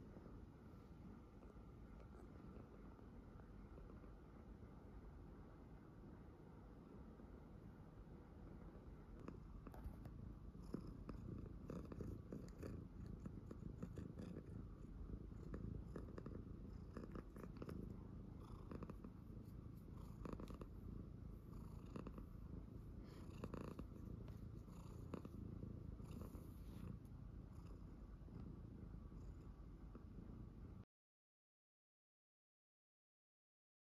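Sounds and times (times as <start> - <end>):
cat purring: 0.0 - 6.4, 7.3 - 30.8.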